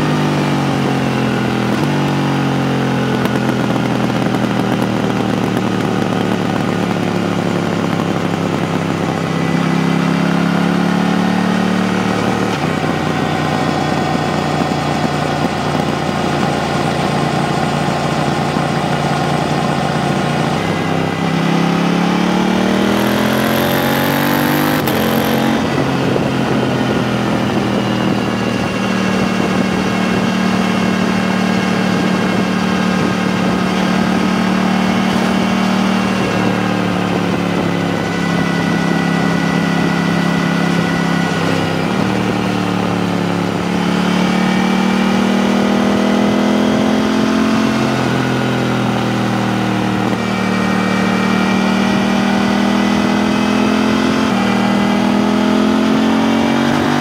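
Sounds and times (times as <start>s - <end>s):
motorcycle engine under way: 0.0s - 57.0s.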